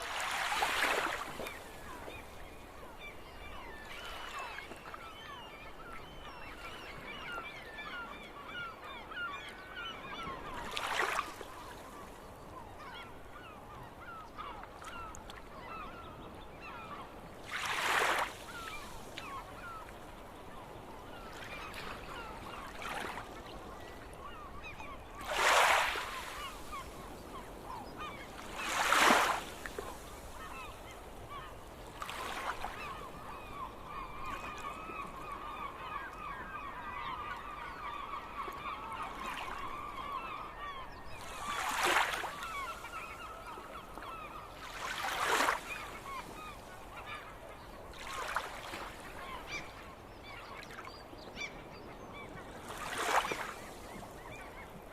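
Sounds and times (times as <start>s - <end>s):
flock of gulls calling: 0.1s - 54.9s.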